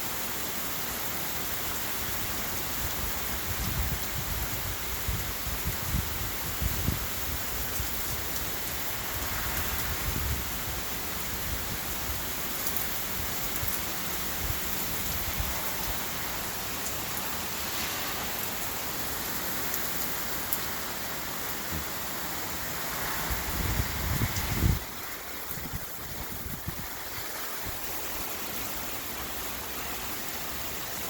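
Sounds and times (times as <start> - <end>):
heavy rain falling: 0.1 - 31.0.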